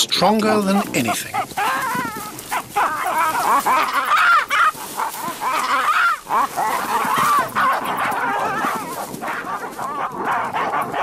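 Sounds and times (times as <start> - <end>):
baboons calling: 0.0 - 11.0.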